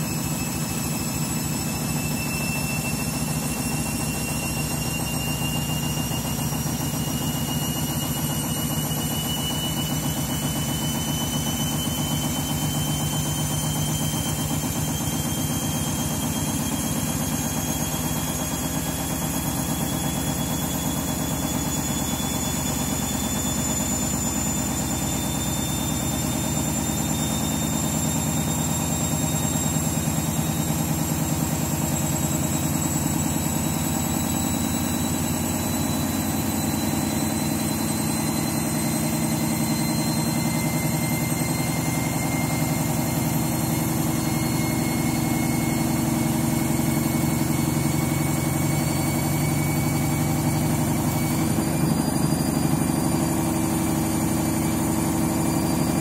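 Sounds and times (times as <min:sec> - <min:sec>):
lower whine: 0:00.0 - 0:56.0
thin rising whine: 0:00.0 - 0:56.0
washing machine drum spinning: 0:00.0 - 0:56.0.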